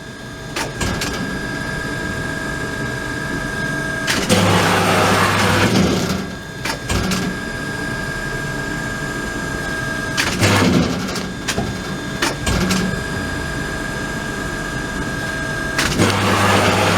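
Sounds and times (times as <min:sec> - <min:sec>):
press brake machine hum: 0:00.0 - 0:16.9.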